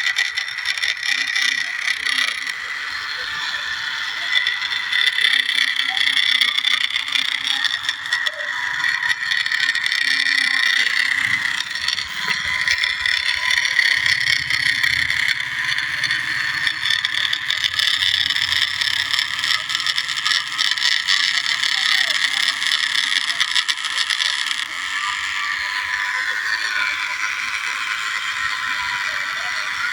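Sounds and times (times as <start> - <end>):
toy tractor motor whine: 0.0 - 29.9.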